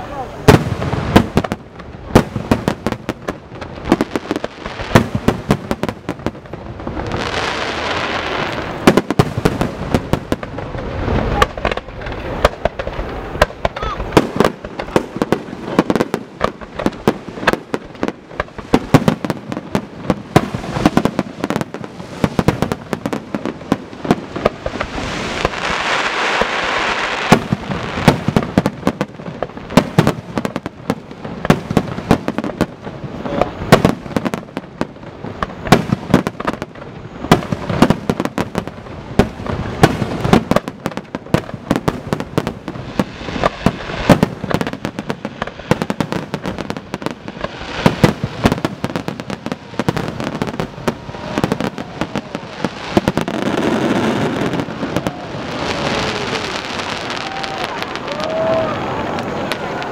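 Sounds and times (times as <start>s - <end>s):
crackling hiss of fireworks: 0.0s - 59.9s
fireworks bangs and pops: 0.0s - 59.9s.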